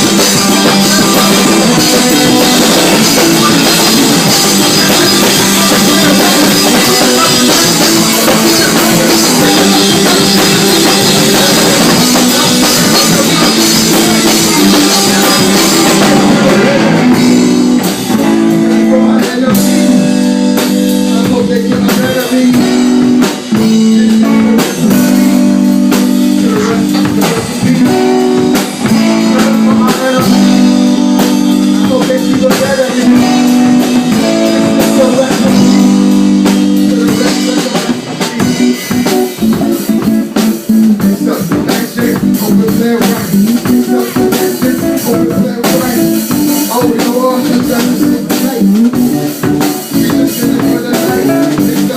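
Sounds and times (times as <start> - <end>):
drum kit: 0.0 - 51.9
electric guitar: 0.0 - 51.9.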